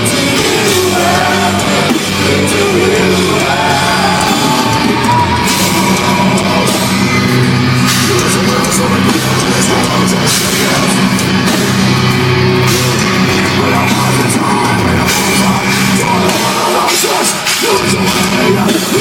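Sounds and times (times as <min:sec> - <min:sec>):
metal band playing live: 0:00.0 - 0:19.0.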